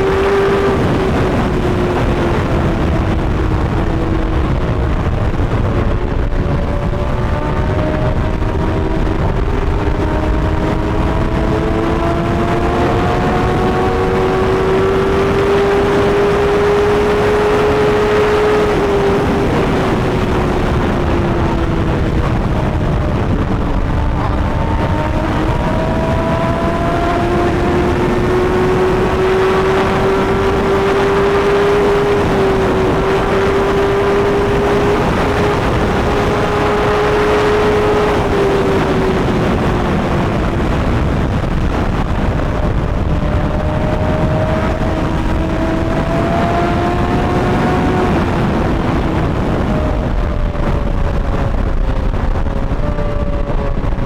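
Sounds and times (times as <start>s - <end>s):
motorcycle engine drone: 0.0s - 54.0s
wind rush: 0.0s - 54.0s.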